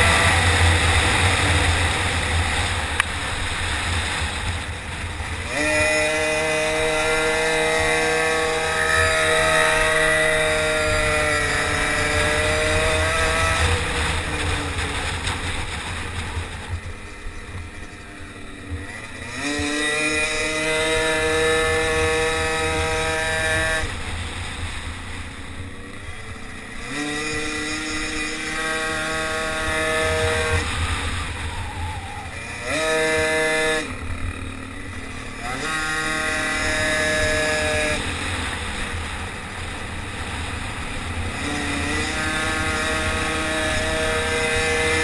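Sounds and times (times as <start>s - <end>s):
small engine revving: 0.0s - 45.0s.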